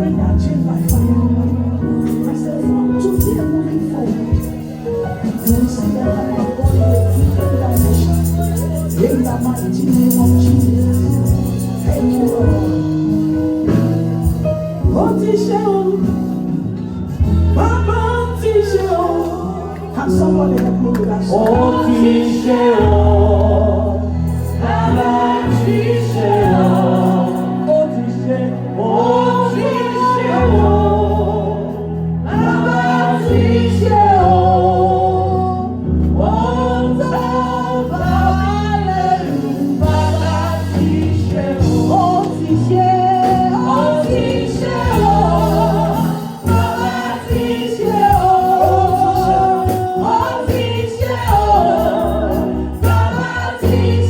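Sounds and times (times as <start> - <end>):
choir and congregation singing: 0.0 - 54.0
keyboard and bass accompaniment: 0.0 - 54.0.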